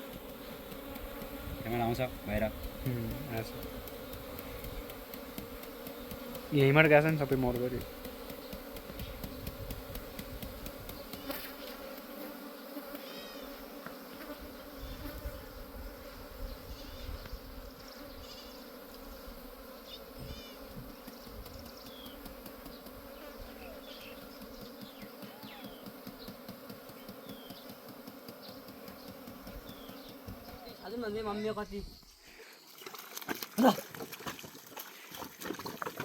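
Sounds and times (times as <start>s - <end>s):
insects buzzing: 0.0s - 33.2s.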